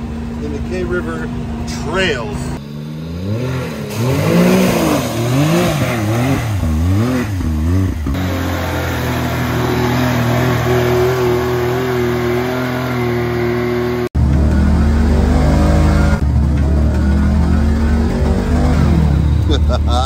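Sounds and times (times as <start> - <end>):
engine revving: 0.0 - 20.0
tires spinning in mud: 2.6 - 20.0.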